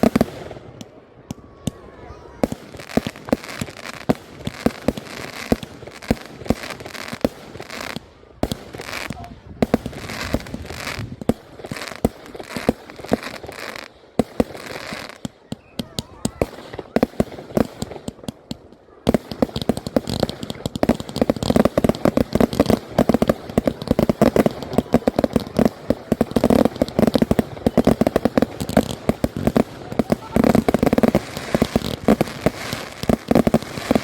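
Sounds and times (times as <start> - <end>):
firework bangs: 0.0 - 34.0
firework crackling barrage: 0.0 - 34.0.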